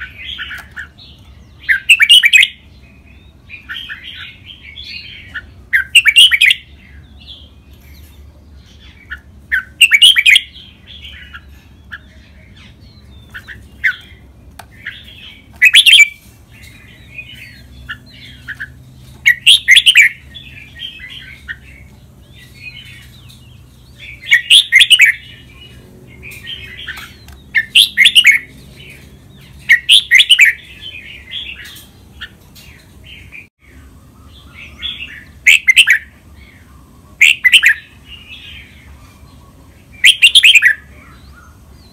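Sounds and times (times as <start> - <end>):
bird singing song phrases: 0.0 - 41.9
bird chattering notes: 1.6 - 2.6, 5.0 - 6.7, 8.8 - 33.4, 34.4 - 40.9.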